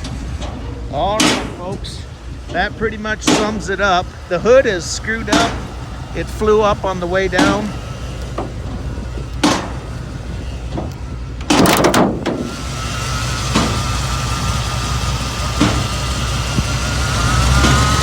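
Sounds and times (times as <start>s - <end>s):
engine idling low rumble: 0.0s - 18.0s
metal clunks: 0.0s - 18.0s
thin whine: 0.0s - 18.0s.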